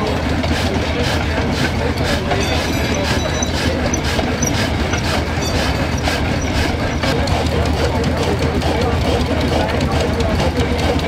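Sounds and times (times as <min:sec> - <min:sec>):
flat belt over pulleys: 0:00.0 - 0:11.0
stationary engine clattering: 0:00.0 - 0:11.0.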